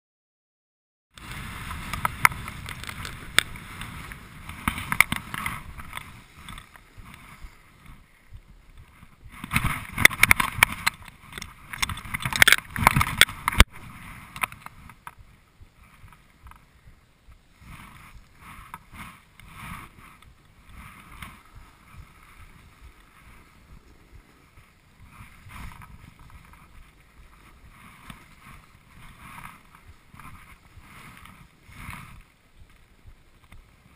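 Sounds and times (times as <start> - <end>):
snowboard scraping over snow: 1.2 - 33.9
wind on microphone: 1.2 - 33.9.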